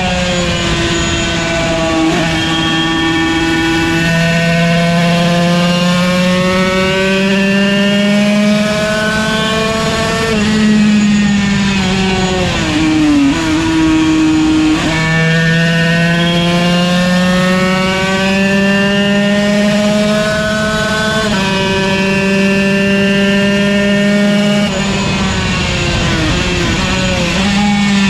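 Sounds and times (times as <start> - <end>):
two-stroke race engine revving: 0.0 - 28.0.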